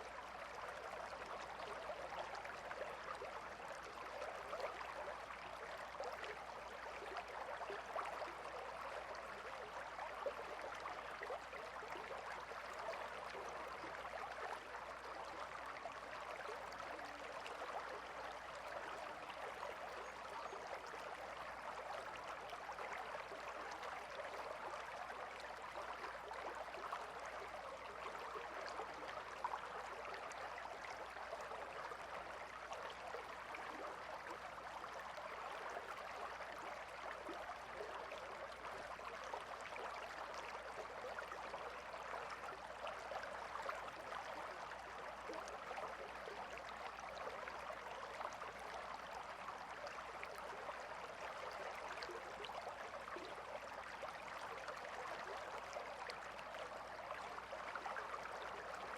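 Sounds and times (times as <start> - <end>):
river water babbling: 0.0 - 58.9.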